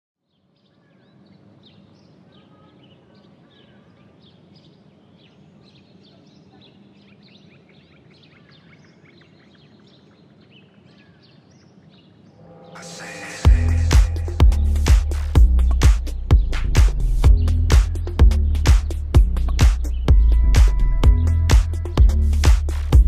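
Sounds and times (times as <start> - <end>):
small birds chirping: 0.2 - 23.0.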